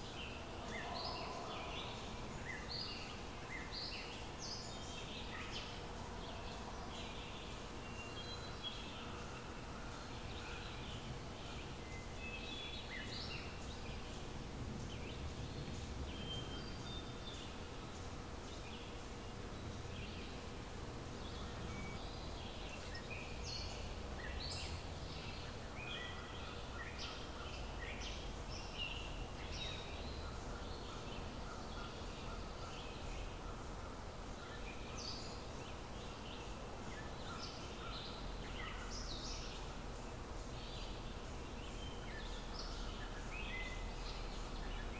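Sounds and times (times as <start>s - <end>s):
faint steady hum: 0.0s - 44.9s
songbirds chirping and singing: 0.0s - 44.9s.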